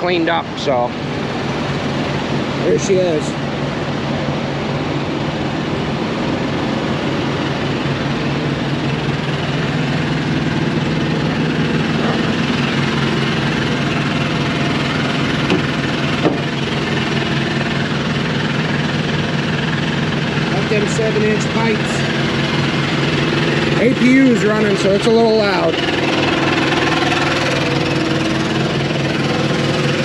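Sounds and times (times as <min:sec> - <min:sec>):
diesel generator running: 0:00.0 - 0:30.0.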